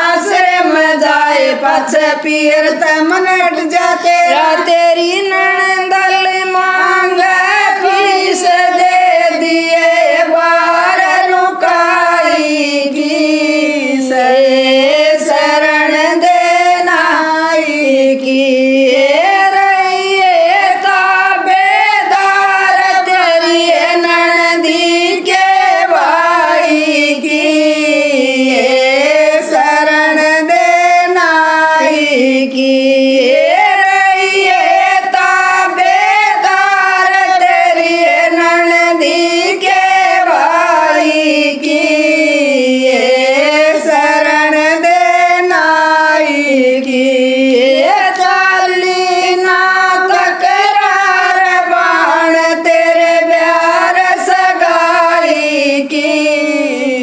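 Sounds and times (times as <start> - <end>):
women singing in unison: 0.0 - 57.0.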